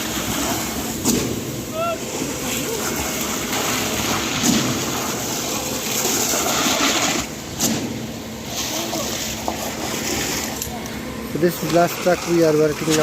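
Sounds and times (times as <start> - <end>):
concrete pump working: 0.0 - 13.0
wet concrete rushing and sloshing: 0.0 - 13.0.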